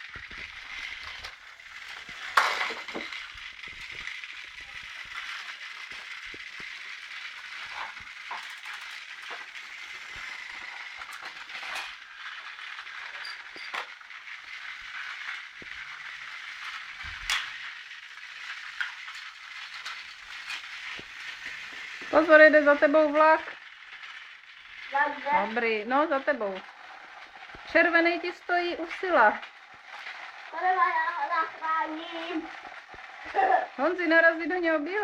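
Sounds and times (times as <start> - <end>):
toy train motors whirring: 0.0 - 35.0.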